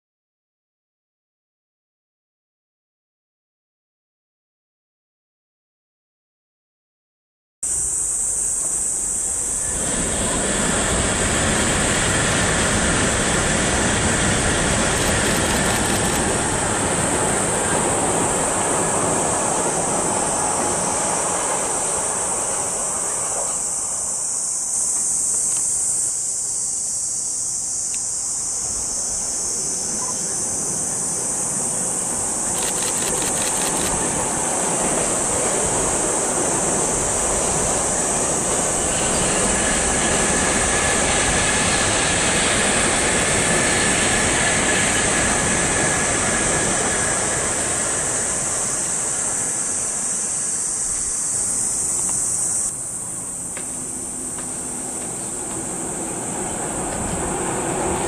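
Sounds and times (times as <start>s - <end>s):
electric train rumbling: 7.6s - 58.0s
high insect drone: 7.6s - 58.0s.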